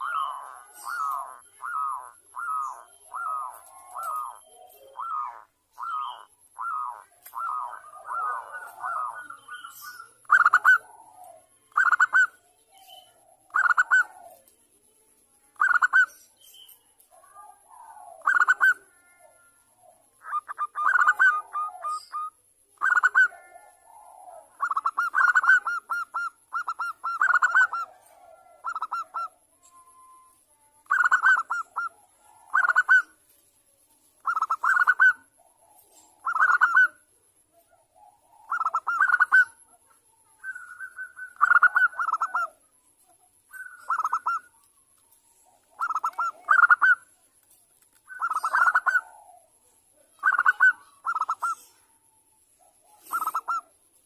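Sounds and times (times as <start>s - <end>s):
doves cooing: 0.0s - 14.6s, 17.1s - 33.4s, 34.2s - 47.2s, 48.0s - 53.8s.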